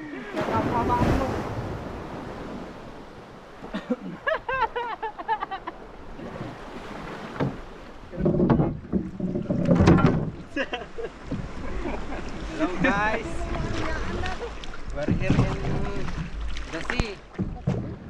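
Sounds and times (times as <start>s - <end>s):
water splashing around boat: 0.0s - 18.0s.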